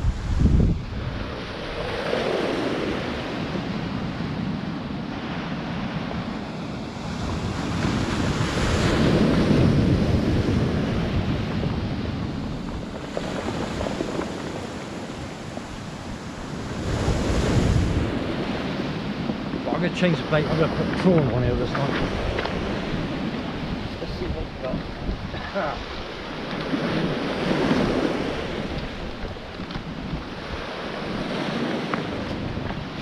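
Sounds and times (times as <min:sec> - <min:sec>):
waves washing over pebbles: 0:00.0 - 0:33.0
wind buffeting microphone: 0:00.0 - 0:33.0.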